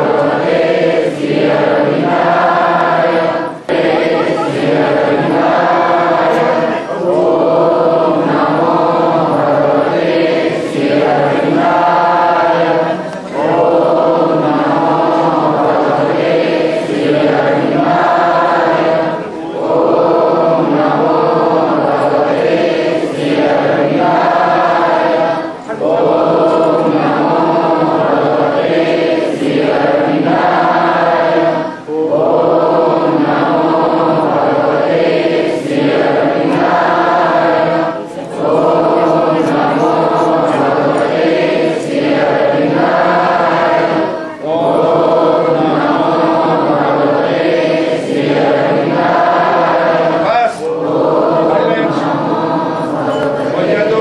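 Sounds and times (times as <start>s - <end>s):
group singing a chant in unison: 0.0s - 54.0s.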